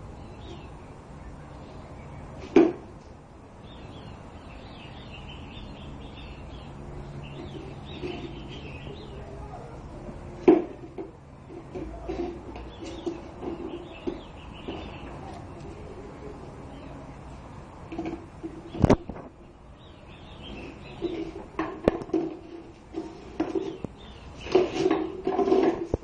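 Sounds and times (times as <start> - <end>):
faint birds chirping: 0.0 - 25.2.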